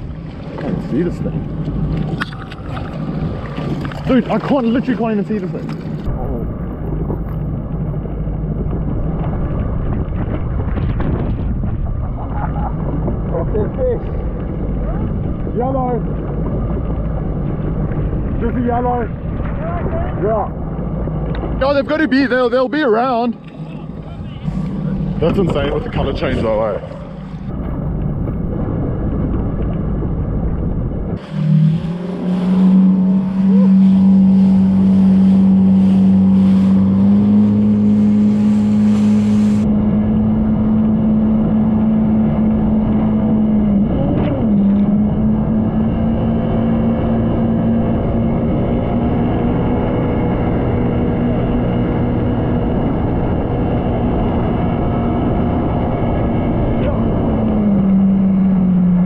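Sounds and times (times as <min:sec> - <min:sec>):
jet ski engine running: 0:00.0 - 0:59.0
rushing wind and water: 0:00.0 - 0:59.0.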